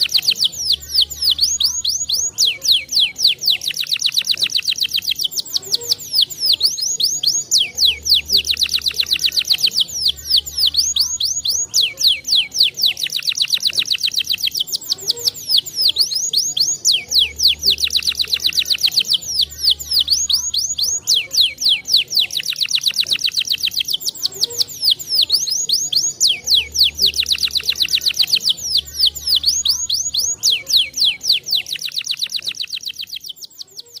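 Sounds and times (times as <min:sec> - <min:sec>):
canary singing trills: 0:00.0 - 0:34.0.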